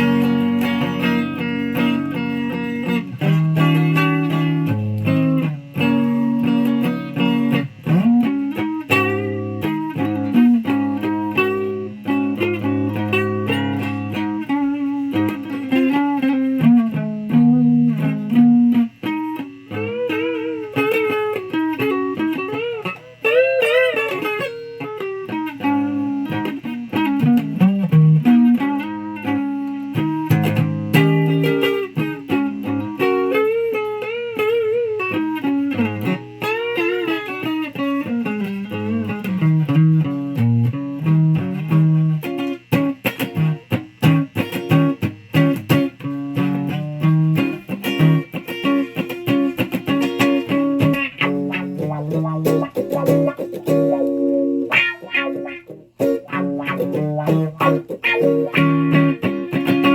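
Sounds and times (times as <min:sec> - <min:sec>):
electric guitar lead lines: 0:00.0 - 0:59.9.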